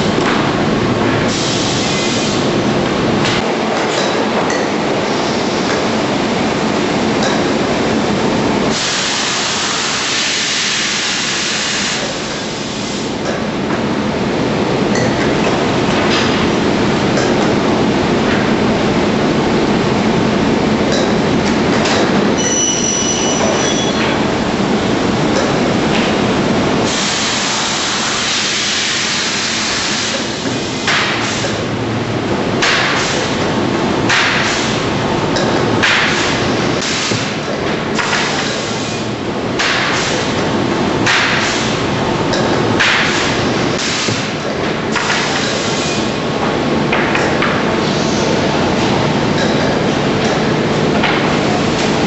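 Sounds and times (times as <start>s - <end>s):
constant machine noise: 0.0s - 52.0s.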